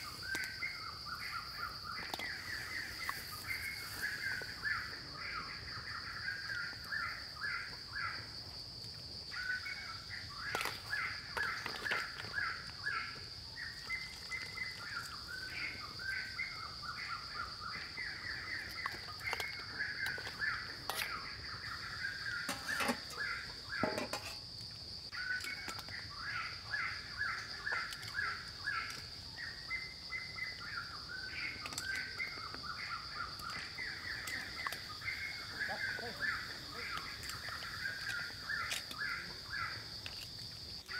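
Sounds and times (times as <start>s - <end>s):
birds calling: 0.0s - 8.3s, 9.3s - 24.2s, 25.1s - 39.8s.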